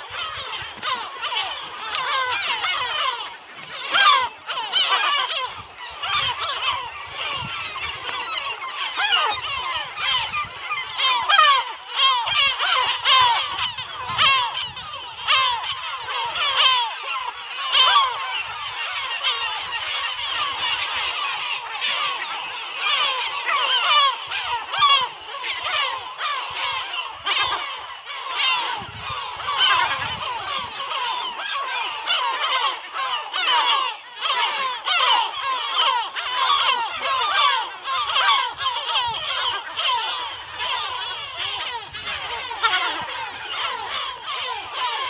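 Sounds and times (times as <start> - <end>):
gulls calling: 0.0 - 45.0.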